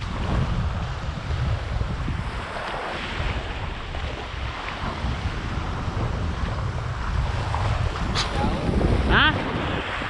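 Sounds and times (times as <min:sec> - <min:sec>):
small waves lapping on shore: 0:00.0 - 0:10.0
wind buffeting microphone: 0:00.0 - 0:10.0.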